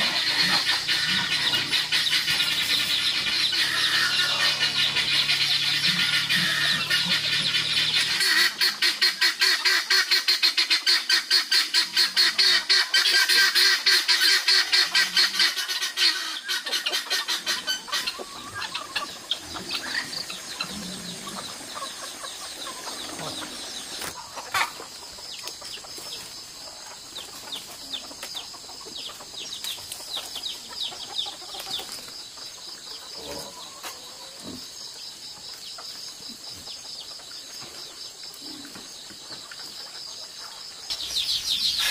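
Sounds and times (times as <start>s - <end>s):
chickens clucking and squawking: 0.0s - 41.9s.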